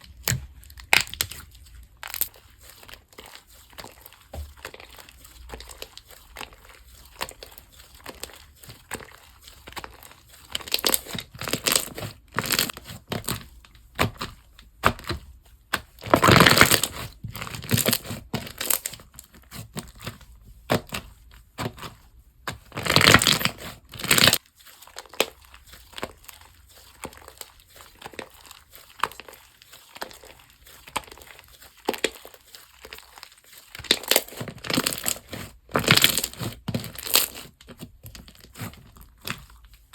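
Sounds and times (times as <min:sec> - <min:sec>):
slime crackling and crinkling: 0:00.0 - 0:39.9.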